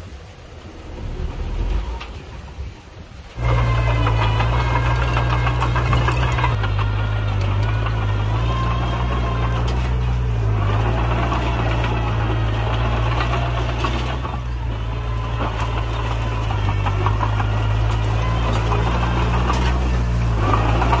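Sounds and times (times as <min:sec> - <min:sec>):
bulldozer diesel engine running: 0:00.0 - 0:21.0
steel tracks clattering: 0:00.0 - 0:21.0.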